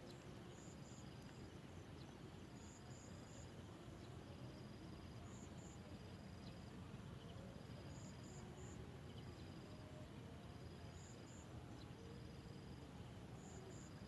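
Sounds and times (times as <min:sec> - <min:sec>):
faint insect chirping: 0:00.0 - 0:14.0.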